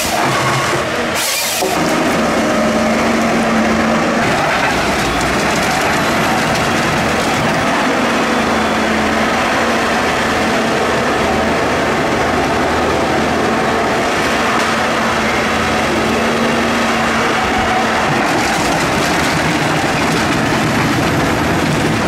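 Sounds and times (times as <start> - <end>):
log feeding through rollers: 0.0 - 11.0, 11.7 - 22.0
harvester diesel engine and hydraulics: 0.0 - 22.0.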